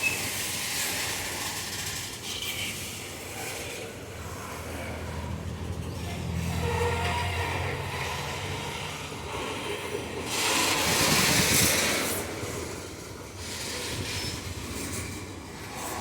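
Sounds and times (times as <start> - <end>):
diesel locomotive hum: 0.0 - 16.0
freight wagons rolling on rails: 0.0 - 16.0.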